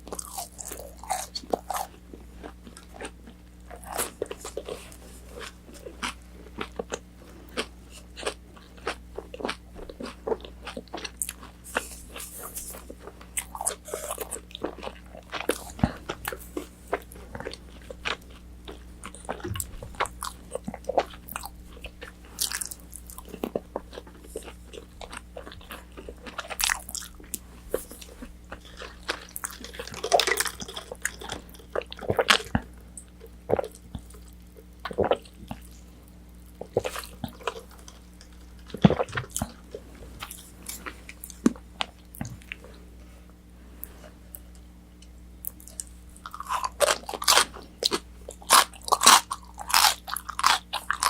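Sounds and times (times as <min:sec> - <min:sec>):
crunchy chewing: 0:00.0 - 0:42.8, 0:43.8 - 0:51.0.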